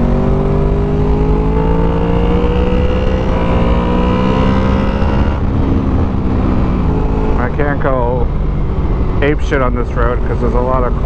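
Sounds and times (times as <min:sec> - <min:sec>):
motorcycle engine under throttle: 0:00.0 - 0:09.4
wind and road noise: 0:00.0 - 0:11.0.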